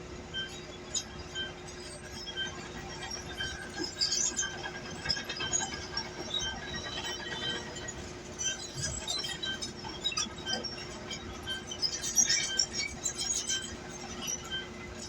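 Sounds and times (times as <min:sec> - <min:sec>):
steel tracks chinking and squealing: 0:00.1 - 0:15.0.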